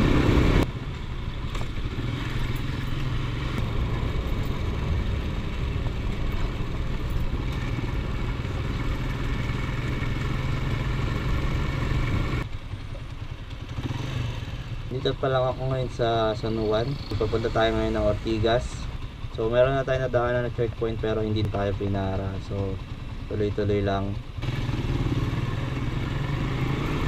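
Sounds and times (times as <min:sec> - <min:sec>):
motorcycle engine running: 0:00.0 - 0:27.0
road and wind noise: 0:00.0 - 0:27.0.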